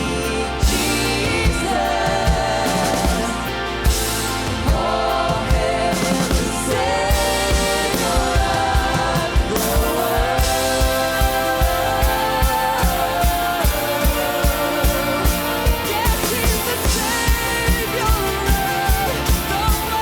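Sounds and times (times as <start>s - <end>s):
held sung notes: 0.0s - 20.0s
worship band playing live: 0.0s - 20.0s.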